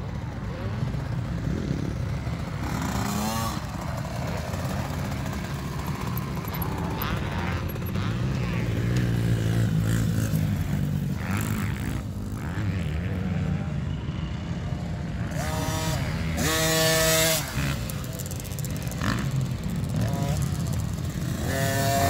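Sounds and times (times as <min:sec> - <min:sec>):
dirt bike engines droning: 0:00.0 - 0:22.0
dirt bike revving: 0:00.3 - 0:13.8, 0:15.0 - 0:22.0.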